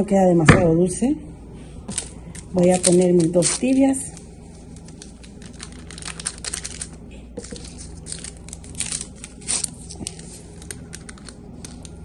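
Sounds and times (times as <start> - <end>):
packets tearing and crinkling: 1.9 - 12.0.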